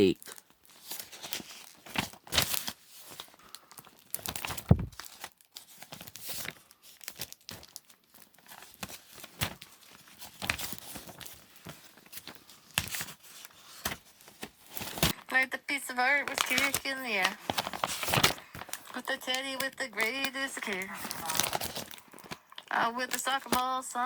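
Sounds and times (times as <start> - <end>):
plastic crinkling and rustling: 0.2 - 15.3, 16.2 - 24.0.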